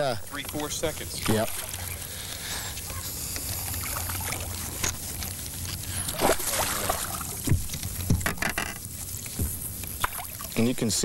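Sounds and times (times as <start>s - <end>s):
steady low hum: 0.0s - 11.0s
fish thrashing and splashing water: 0.5s - 2.5s, 3.5s - 10.7s.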